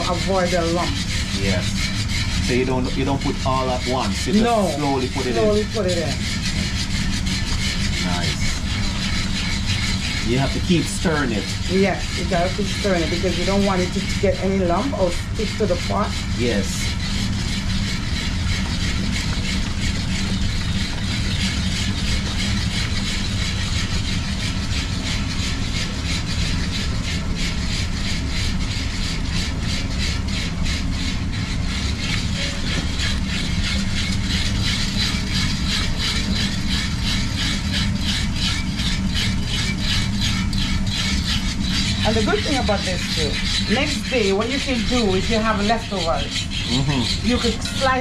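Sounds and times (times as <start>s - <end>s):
spoon scraping in pot: 0.0s - 48.0s.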